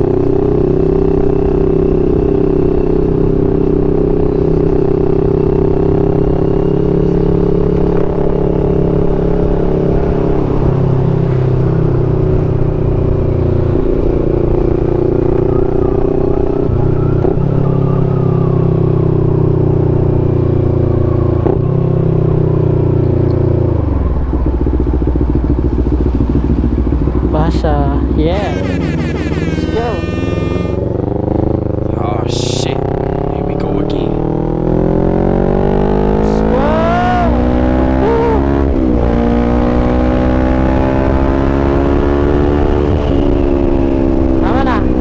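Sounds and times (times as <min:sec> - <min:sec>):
motorcycle engine running: 0:00.0 - 0:17.4, 0:19.4 - 0:45.0.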